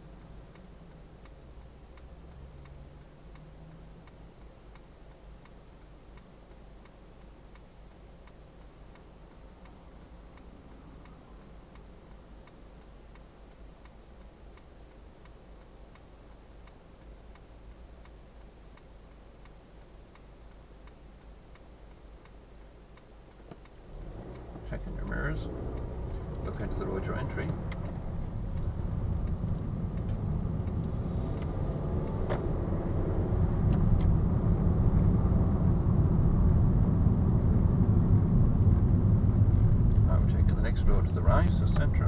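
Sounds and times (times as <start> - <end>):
low steady hum: 0.0 - 42.0
turn signal clicking: 0.0 - 42.0.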